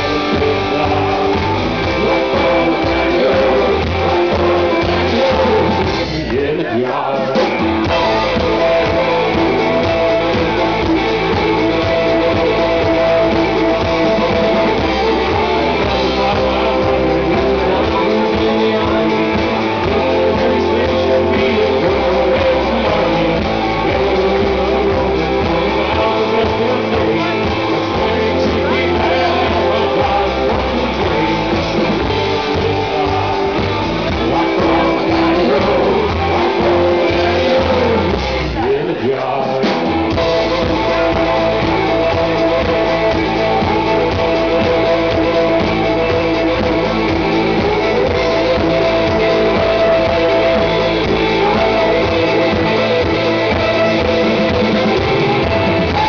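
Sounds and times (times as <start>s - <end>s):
live rock band: 0.0s - 56.0s.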